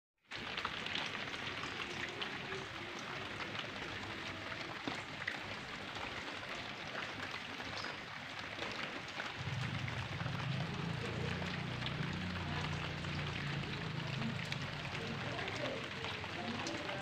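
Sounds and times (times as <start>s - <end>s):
rain on concrete roof: 0.2s - 17.0s.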